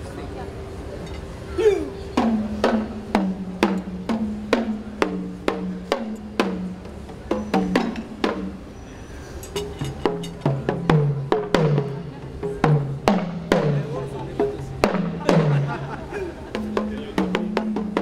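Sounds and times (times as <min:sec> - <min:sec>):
lower-pitched drum: 0:01.6 - 0:08.8, 0:09.6 - 0:18.0
fan drums struck with sticks: 0:01.6 - 0:18.0.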